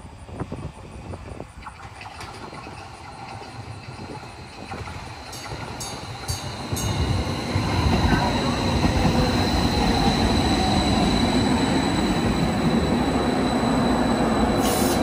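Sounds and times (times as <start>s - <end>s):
light rail train rumbling: 0.0s - 15.0s.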